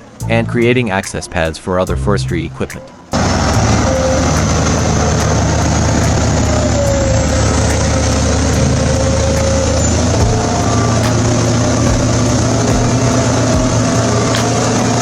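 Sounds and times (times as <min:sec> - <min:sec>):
bulldozer diesel engine: 0:00.0 - 0:15.0.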